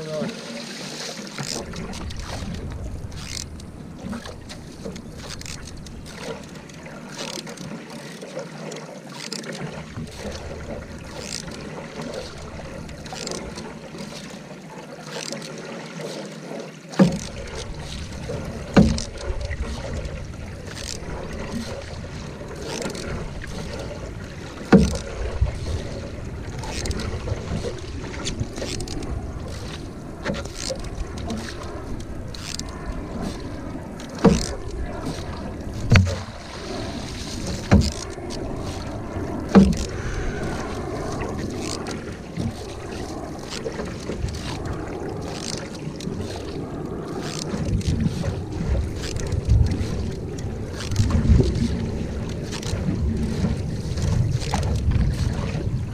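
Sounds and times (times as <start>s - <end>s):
paddle strokes splashing: 0.0s - 55.9s
water rushing along hull: 0.0s - 55.9s.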